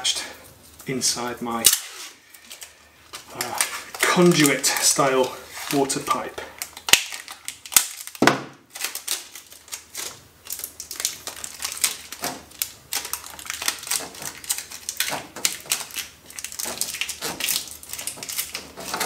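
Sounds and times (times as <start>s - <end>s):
adhesive tape peeling crackle: 0.6s - 19.0s.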